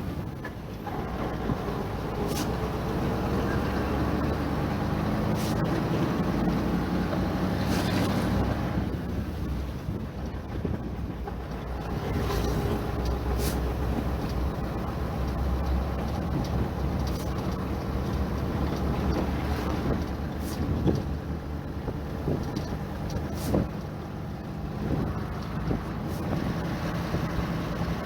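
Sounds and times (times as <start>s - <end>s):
diesel machinery engine hum: 0.0s - 28.0s.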